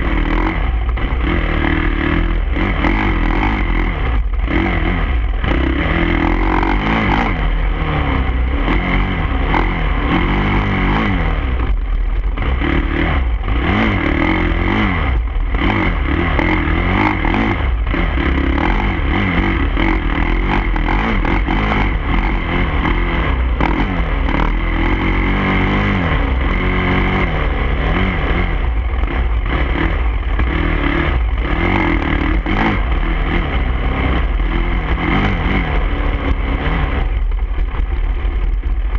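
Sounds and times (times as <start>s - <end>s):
low wind rumble: 0.0s - 38.9s
motorcycle engine revving: 0.0s - 38.9s.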